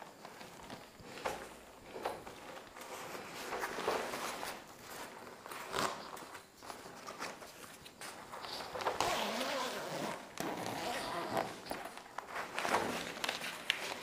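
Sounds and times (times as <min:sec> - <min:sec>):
fabric bag rustling and scraping: 0:00.0 - 0:14.0.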